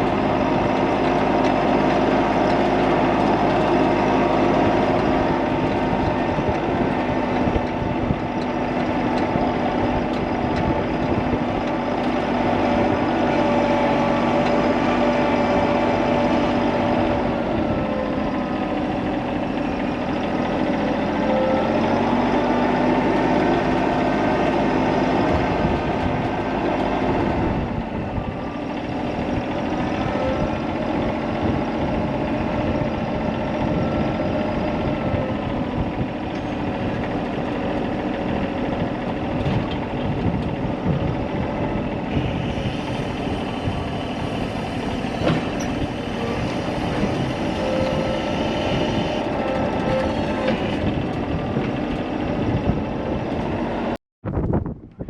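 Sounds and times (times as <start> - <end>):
heavy vehicle engine running: 0.0 - 55.0.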